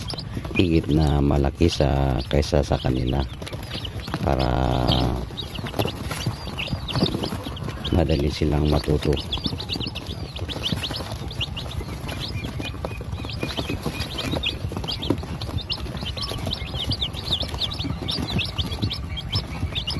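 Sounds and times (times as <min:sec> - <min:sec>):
chicks peeping: 0:00.0 - 0:19.9.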